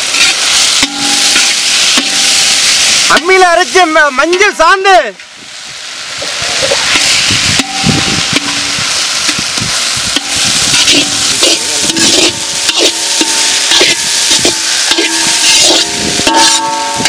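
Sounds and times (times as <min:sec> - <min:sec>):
ladle scraping a pan: 0:00.0 - 0:03.1, 0:06.2 - 0:17.0
paste frying in hot oil: 0:00.0 - 0:17.0.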